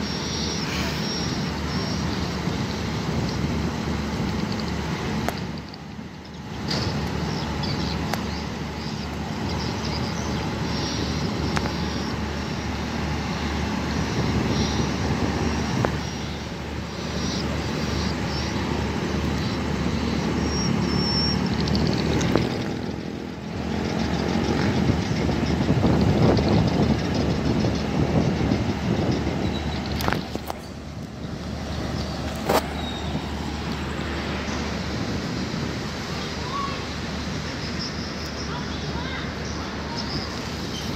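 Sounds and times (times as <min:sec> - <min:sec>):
locomotive engine rumbling: 0:00.0 - 0:40.9.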